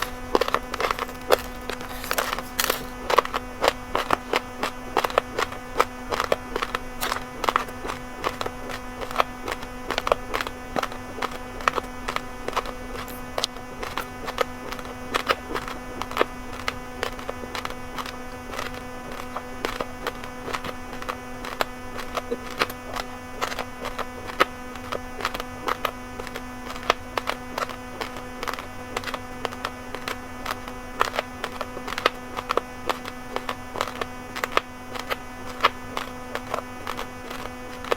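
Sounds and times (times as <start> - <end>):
person chewing raw rice: 0.0 - 37.9
steady electrical hum: 0.0 - 37.9.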